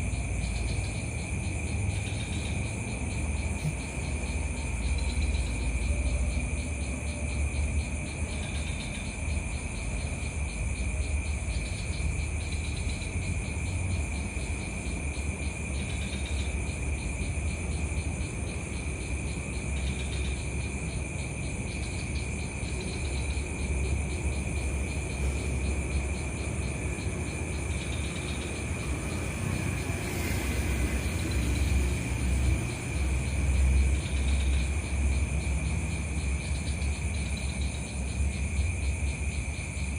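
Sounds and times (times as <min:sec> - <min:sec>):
crickets trilling: 0:00.0 - 0:39.9
short insect call: 0:00.0 - 0:39.9.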